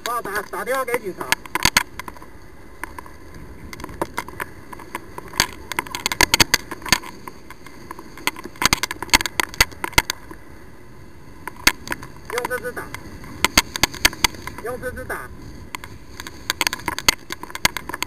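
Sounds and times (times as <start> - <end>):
sharp crackles and knocks: 0.0 - 10.5, 11.3 - 18.0
wind and road noise: 0.0 - 18.0.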